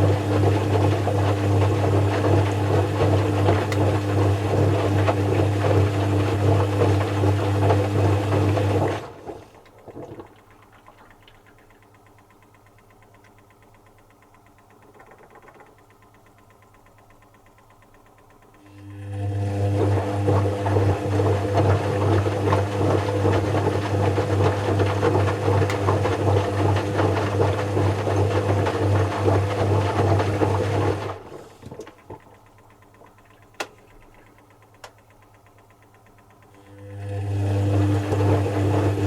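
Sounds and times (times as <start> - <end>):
washing machine motor humming: 0.0 - 39.0.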